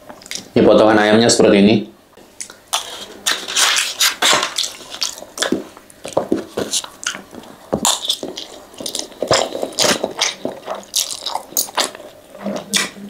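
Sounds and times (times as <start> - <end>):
person chewing wetly: 2.4 - 13.0.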